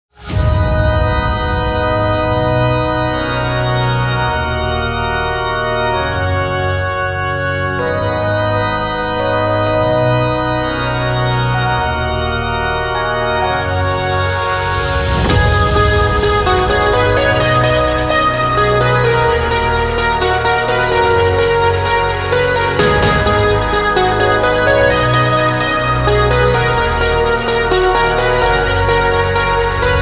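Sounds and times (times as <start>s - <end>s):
low bass line: 0.2s - 30.0s
held organ chords: 0.3s - 30.0s.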